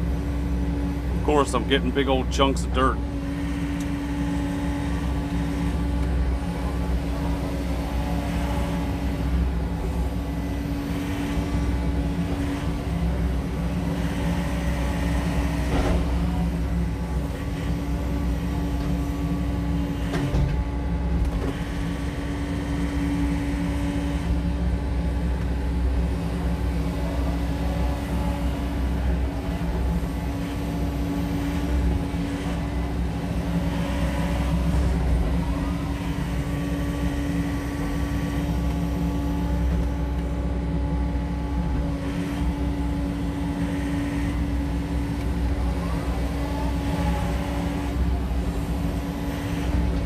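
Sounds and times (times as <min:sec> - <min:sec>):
excavator engine and hydraulics: 0:00.0 - 0:50.0.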